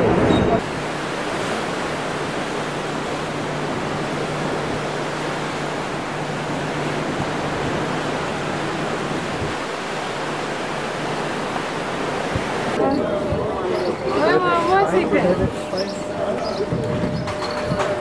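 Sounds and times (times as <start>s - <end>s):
choppy sea: 0.0s - 18.0s.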